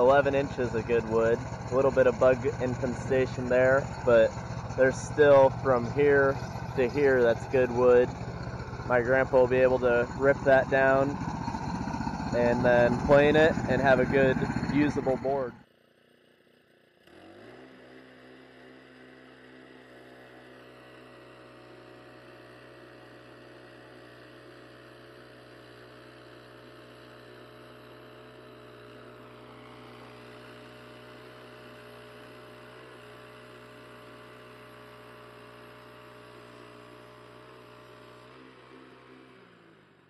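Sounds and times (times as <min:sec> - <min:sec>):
band sawmill engine running: 0:00.0 - 0:15.6, 0:17.1 - 0:40.0.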